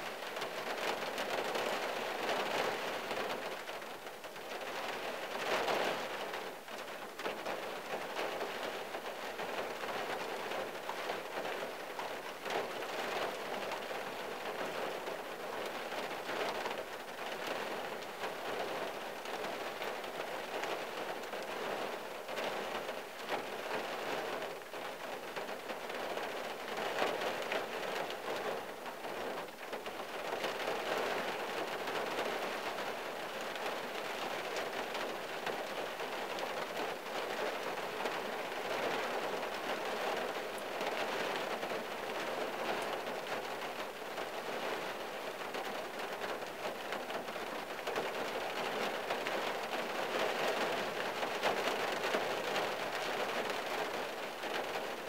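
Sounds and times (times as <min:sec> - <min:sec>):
rain on car roof and windshield: 0:00.0 - 0:55.0.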